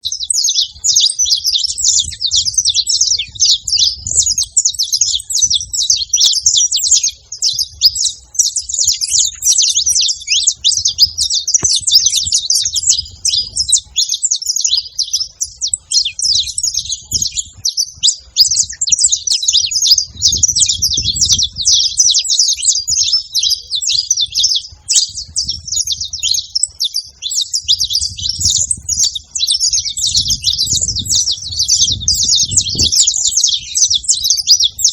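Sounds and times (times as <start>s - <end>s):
finch singing rapid chirps: 0.0s - 34.9s.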